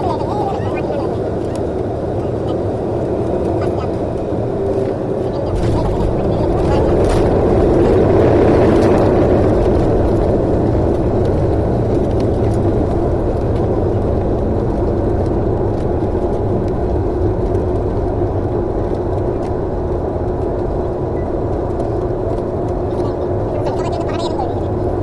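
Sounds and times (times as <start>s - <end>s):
vehicle driving drone: 0.0s - 25.0s.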